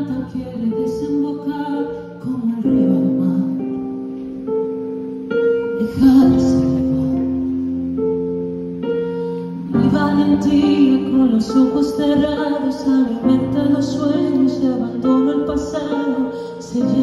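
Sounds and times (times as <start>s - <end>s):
woman singing: 0.0s - 4.4s, 5.5s - 8.0s, 8.9s - 17.0s.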